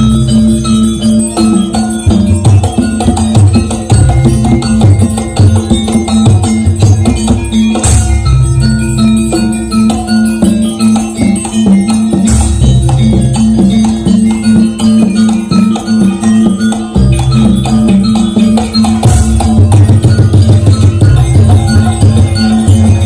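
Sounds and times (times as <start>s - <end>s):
drums: 0.0s - 23.0s
gamelan dance music: 0.0s - 23.0s
pitched metal percussion: 0.0s - 23.0s.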